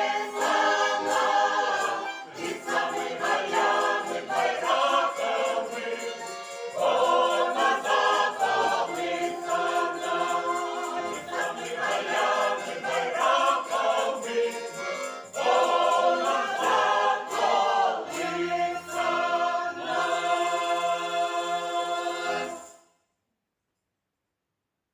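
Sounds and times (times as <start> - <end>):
button accordion: 0.0 - 22.7
violin: 0.0 - 22.8
folk choir singing: 0.0 - 22.9.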